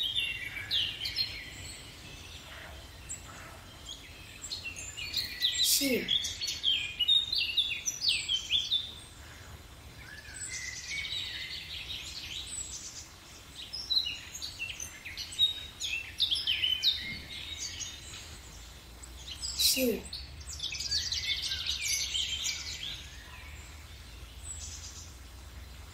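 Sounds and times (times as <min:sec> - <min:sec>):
songbirds chirping: 0:00.0 - 0:25.9.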